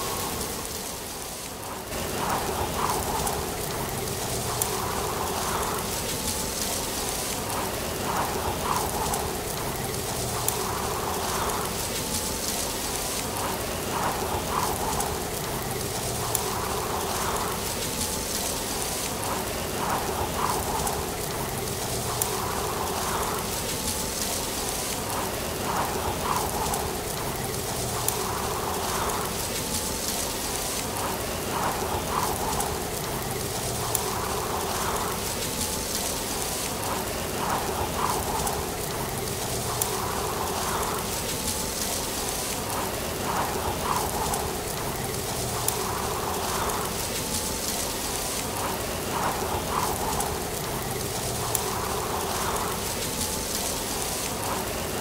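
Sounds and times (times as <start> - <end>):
leaves rustling in wind: 0.0 - 55.0.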